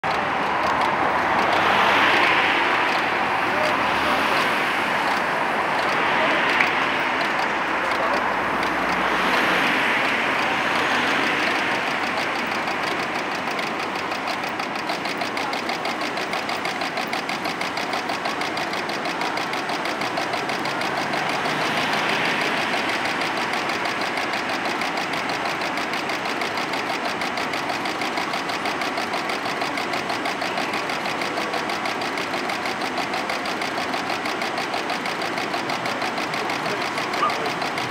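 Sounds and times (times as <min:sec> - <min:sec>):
pulsing mechanical hum: 0:00.0 - 0:37.9
street noise: 0:00.0 - 0:37.9.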